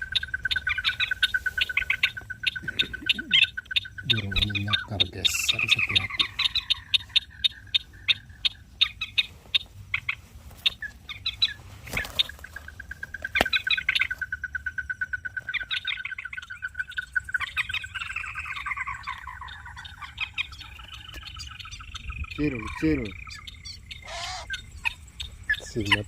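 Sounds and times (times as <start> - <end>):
night birds and frogs calling: 0.0 - 26.0.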